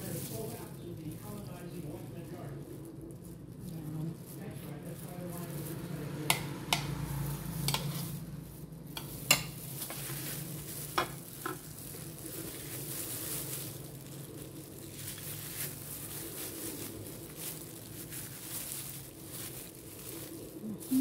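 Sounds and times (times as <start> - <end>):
plastic gloves rustling: 0.0 - 21.0.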